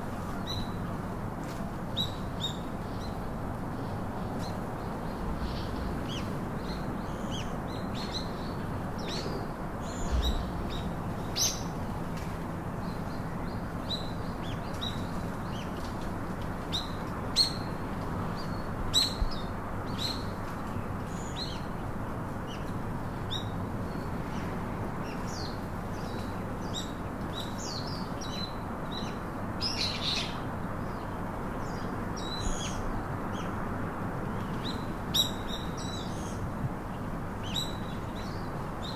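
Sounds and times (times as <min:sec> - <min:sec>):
low background noise: 0:00.0 - 0:38.9.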